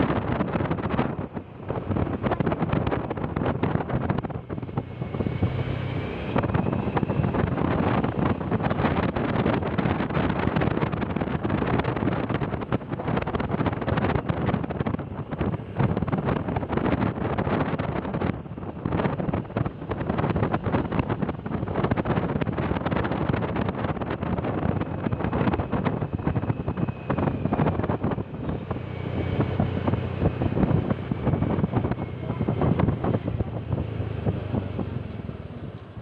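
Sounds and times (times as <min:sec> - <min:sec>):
vehicle running: 0:00.0 - 0:36.0
wind buffeting microphone: 0:00.0 - 0:36.0.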